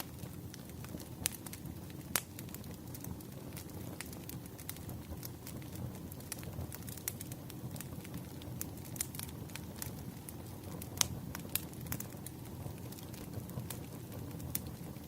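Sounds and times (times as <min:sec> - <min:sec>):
firewood crackling: 0:00.0 - 0:15.0
low rumble of flame: 0:00.0 - 0:15.0
sharp pops of burning wood: 0:00.0 - 0:15.0.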